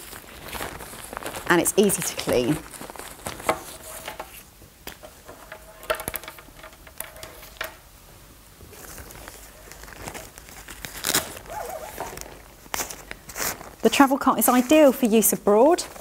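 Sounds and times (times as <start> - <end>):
fabric rustling and crinkling: 0.0 - 7.7, 8.6 - 16.0.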